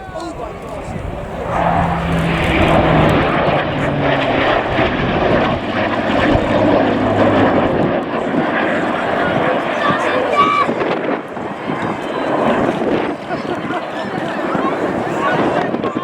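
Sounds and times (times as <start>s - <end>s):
aircraft piston engine passing by: 0.0s - 16.0s.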